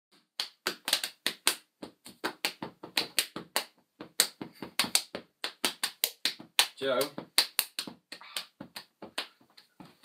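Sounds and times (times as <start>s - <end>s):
hands tapping: 0.4s - 10.0s.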